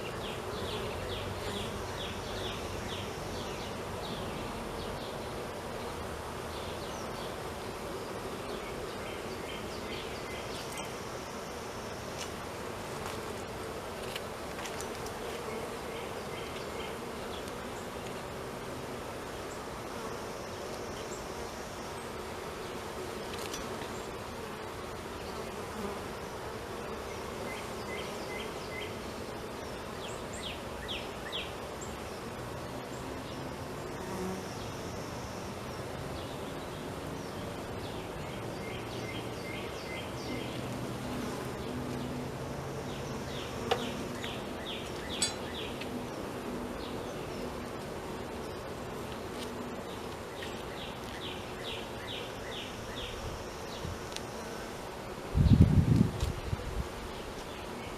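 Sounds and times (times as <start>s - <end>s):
honeybees buzzing: 0.0s - 57.9s.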